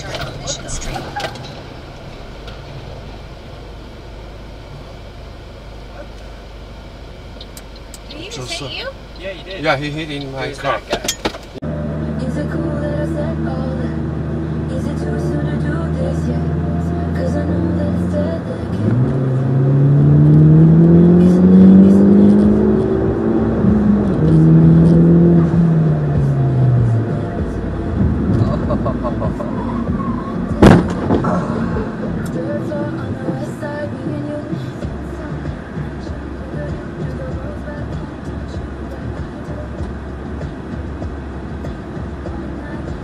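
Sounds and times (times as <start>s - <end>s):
low rumble of road vehicles: 0.0s - 43.0s.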